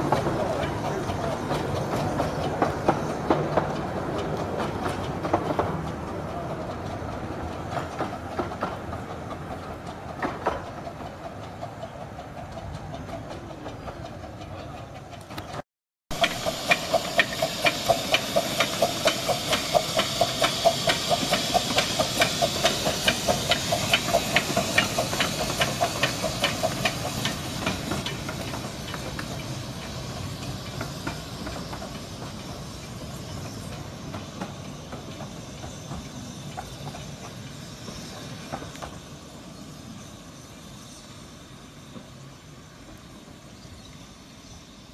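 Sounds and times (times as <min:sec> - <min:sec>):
steam hissing: 0:00.0 - 0:13.8, 0:16.1 - 0:44.9
steam locomotive chuffing: 0:00.0 - 0:44.9.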